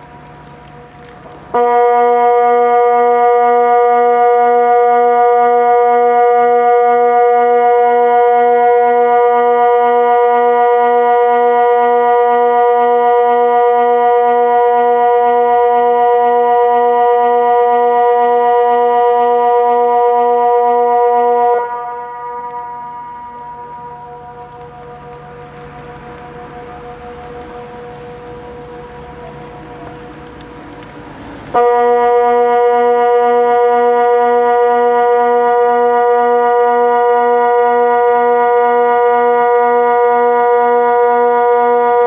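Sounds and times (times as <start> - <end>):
electronic siren steady tone: 1.6 - 29.4, 31.5 - 42.0.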